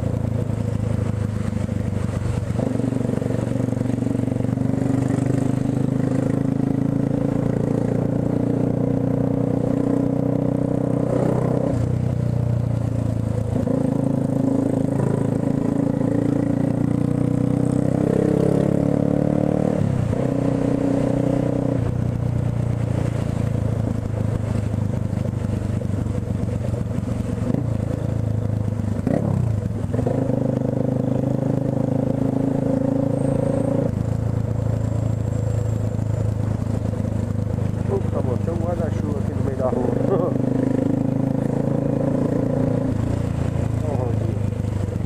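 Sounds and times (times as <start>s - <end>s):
motorcycle engine at low revs: 0.0s - 45.0s.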